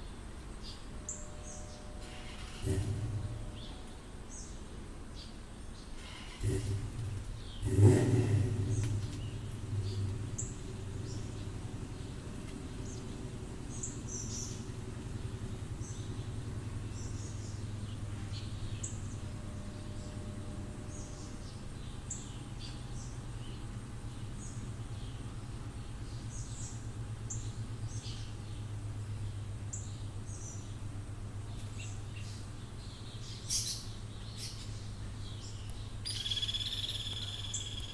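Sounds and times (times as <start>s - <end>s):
steady low hum: 0.0s - 36.1s
birds chirping: 0.0s - 37.9s.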